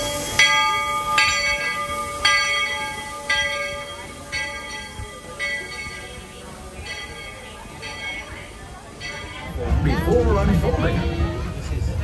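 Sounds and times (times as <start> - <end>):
locomotive bell ringing: 0.0 - 10.1
train rumble: 0.0 - 12.0.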